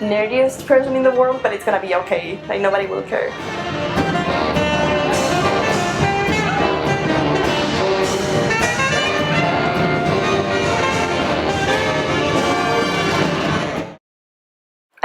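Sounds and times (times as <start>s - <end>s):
jazzy brass background music: 1.0s - 14.0s.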